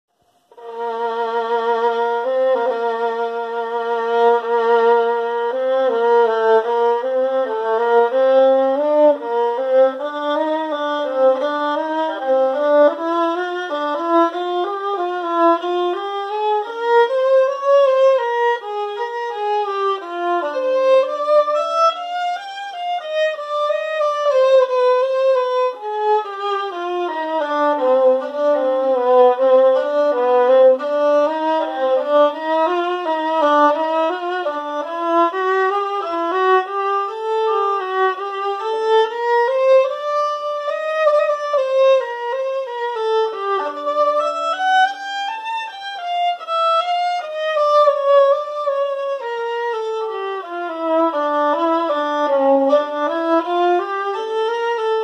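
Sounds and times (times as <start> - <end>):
solo violin slow melody: 0.1 - 55.0.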